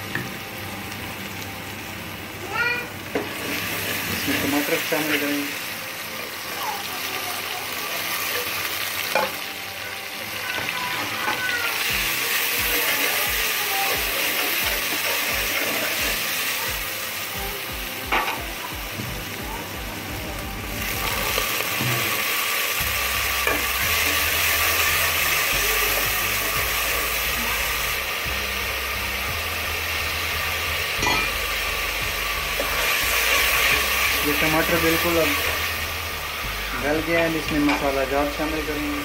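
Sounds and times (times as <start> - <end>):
onions sizzling in oil: 0.0 - 39.0.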